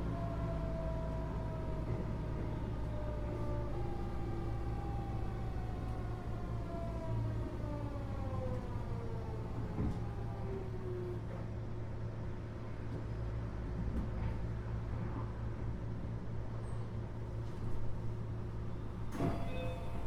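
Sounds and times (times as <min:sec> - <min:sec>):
low rumble of running train: 0:00.0 - 0:20.0.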